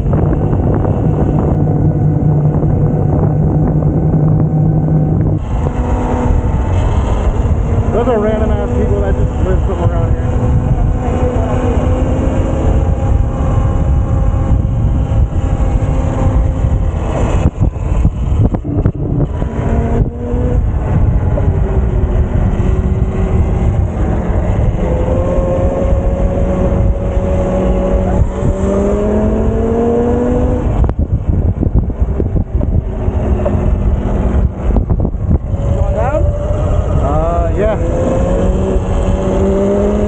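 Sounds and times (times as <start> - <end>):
wind rumble on microphone: 0.0 - 40.0.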